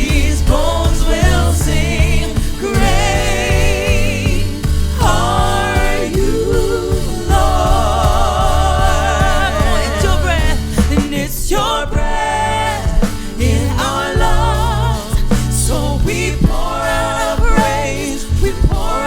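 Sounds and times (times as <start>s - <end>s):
person singing with vibrato: 0.0s - 19.0s
worship band playing: 0.0s - 19.0s.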